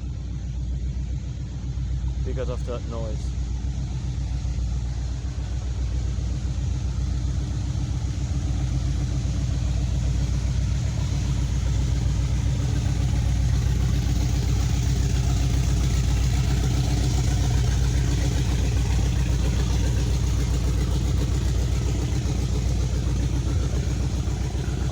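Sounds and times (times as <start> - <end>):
boat engines humming: 0.0 - 24.9.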